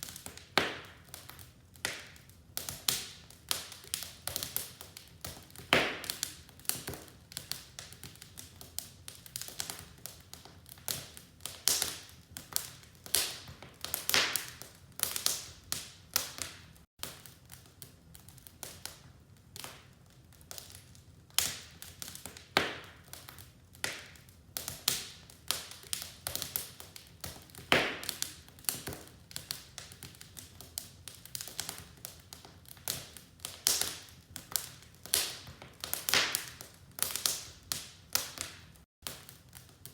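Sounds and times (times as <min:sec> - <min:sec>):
low hiss of burning: 0:00.0 - 0:39.9
wood fire crackling: 0:00.0 - 0:39.9.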